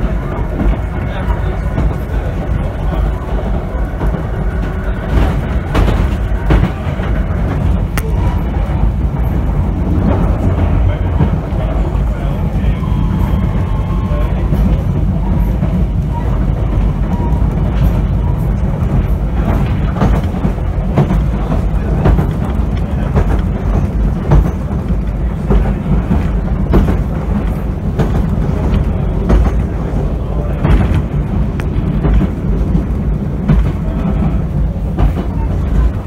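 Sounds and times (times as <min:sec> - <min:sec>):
train interior rumble: 0:00.0 - 0:36.0.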